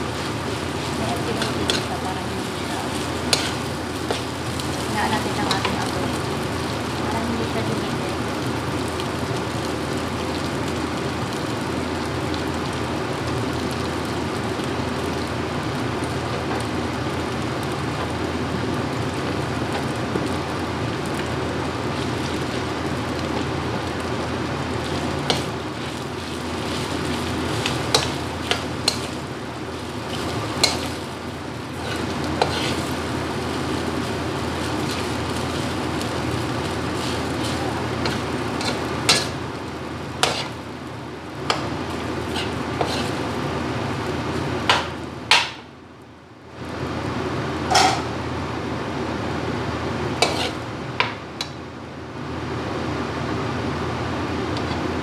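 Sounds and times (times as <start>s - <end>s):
food sizzling in wok: 0.0s - 55.0s.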